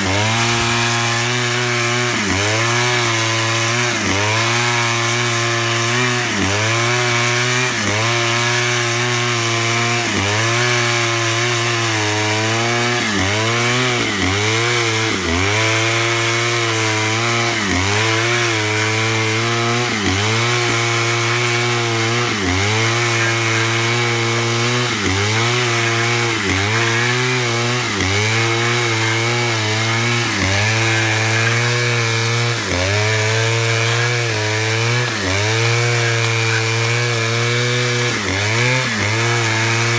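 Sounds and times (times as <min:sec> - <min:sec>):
chainsaw ripping wood: 0:00.0 - 0:39.9.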